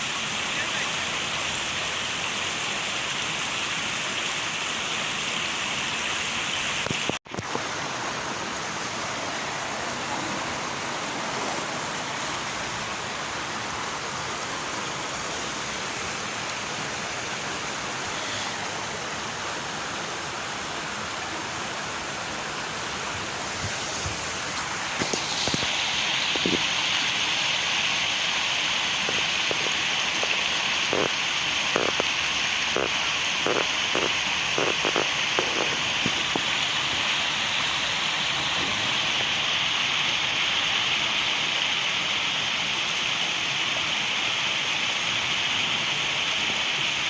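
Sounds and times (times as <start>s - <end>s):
waterfall rushing water: 0.0s - 47.0s.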